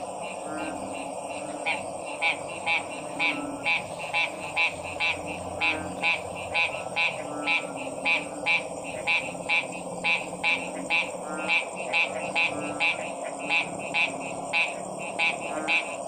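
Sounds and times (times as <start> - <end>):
deep frog croaks: 0.0 - 16.0
frog chorus: 0.0 - 16.0
frogs calling sharply: 0.0 - 16.0.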